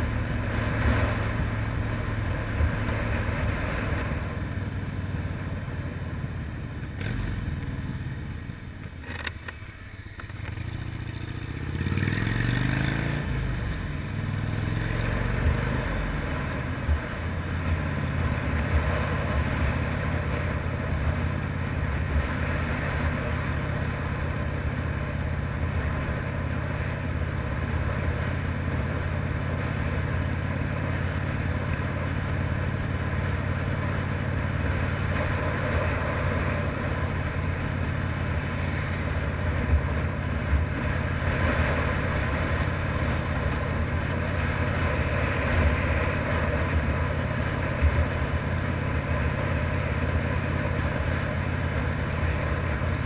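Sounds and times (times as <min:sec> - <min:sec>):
motorcycle engine running: 0:00.0 - 0:53.0
road and wind noise: 0:00.0 - 0:53.0.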